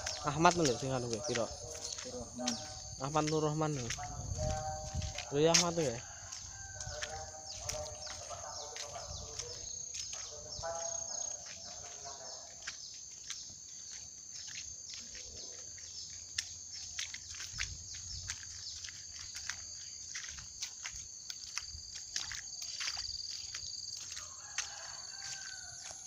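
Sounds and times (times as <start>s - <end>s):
insects buzzing drone: 0.0s - 26.0s.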